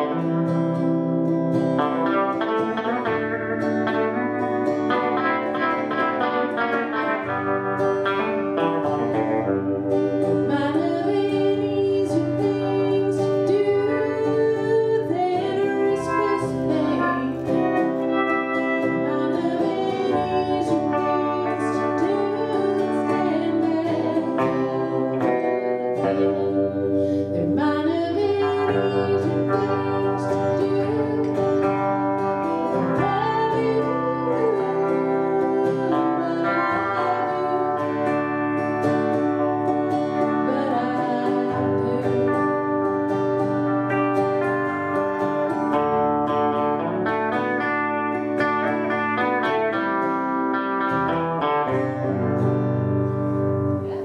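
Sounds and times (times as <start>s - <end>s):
woman singing: 0.0s - 0.8s, 1.8s - 52.3s
electric guitar: 0.0s - 54.0s
strummed acoustic guitar: 0.0s - 54.0s.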